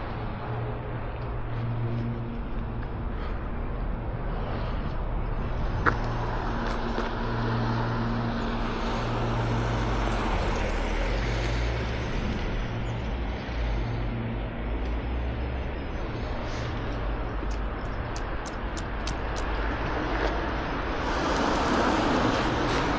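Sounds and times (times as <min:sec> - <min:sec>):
traffic engines humming: 0:00.0 - 0:22.9
vehicle tyre noise: 0:00.0 - 0:22.9.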